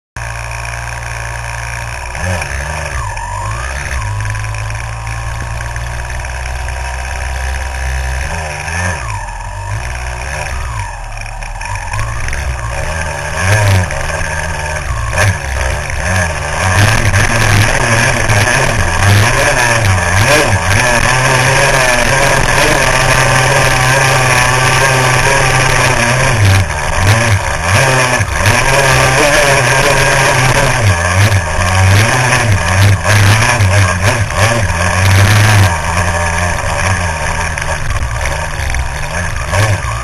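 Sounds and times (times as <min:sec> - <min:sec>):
dirt bike engine revving: 0:00.2 - 0:40.0.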